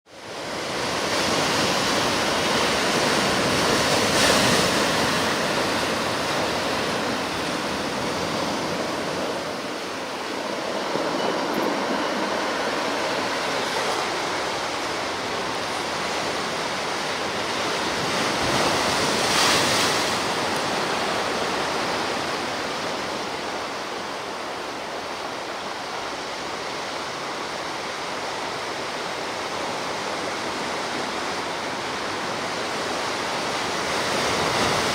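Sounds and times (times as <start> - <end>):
sea surf washing ashore: 0.1 - 34.9.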